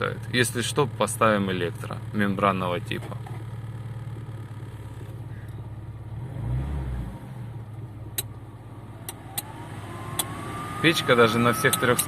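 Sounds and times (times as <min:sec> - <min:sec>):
car engine idling: 0:00.0 - 0:06.2, 0:07.5 - 0:12.0.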